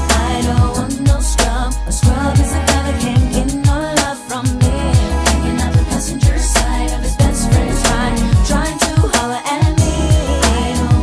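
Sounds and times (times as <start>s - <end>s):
r and b beat with heavy bass: 0.0s - 11.0s.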